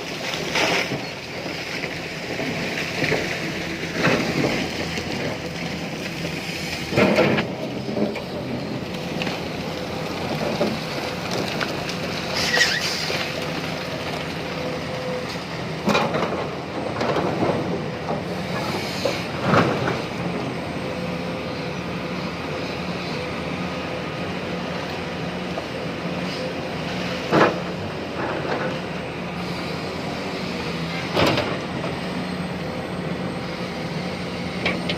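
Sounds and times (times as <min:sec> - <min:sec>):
excavator engine and hydraulics humming: 0:00.0 - 0:34.9.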